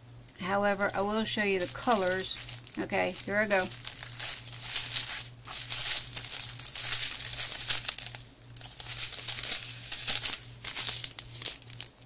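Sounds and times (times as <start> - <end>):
plastic bags crinkling: 0.6 - 12.0.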